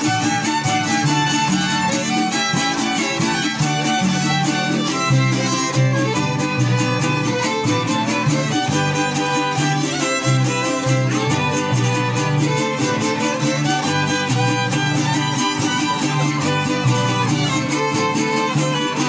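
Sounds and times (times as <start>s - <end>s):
guitars: 0.0s - 19.0s
harp plucking bass line: 0.0s - 19.0s
violins playing melody: 0.0s - 19.0s.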